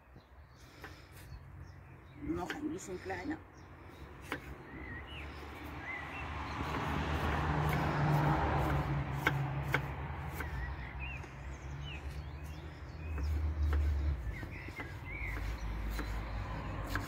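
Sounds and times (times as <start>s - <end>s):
bird chirps: 0.0s - 6.9s, 8.7s - 17.0s
vehicle passing: 1.8s - 17.0s.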